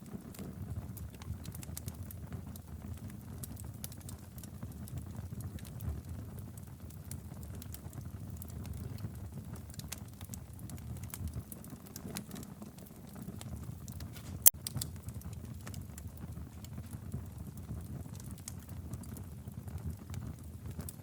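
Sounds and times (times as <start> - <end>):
fire crackling: 0.0 - 21.0
flames rushing: 0.1 - 21.0.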